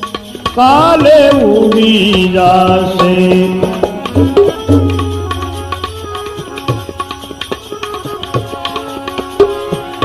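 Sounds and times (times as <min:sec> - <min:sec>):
drums and small percussion: 0:00.0 - 0:10.0
held melody line: 0:00.6 - 0:10.0.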